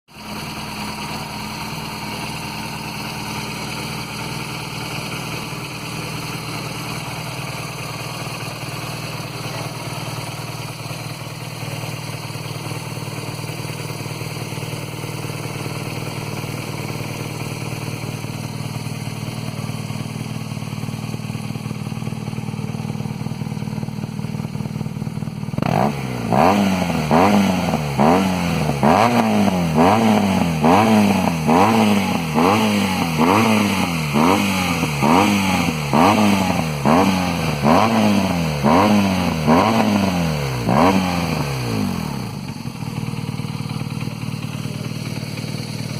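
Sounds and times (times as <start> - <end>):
motorcycle engine idling: 0.1 - 45.9.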